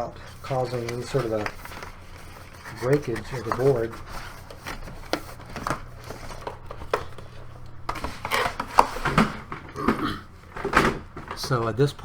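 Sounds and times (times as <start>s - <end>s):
rustling and scraping cardboard: 0.0s - 9.8s
cardboard packaging knocks and clicks: 0.6s - 11.6s.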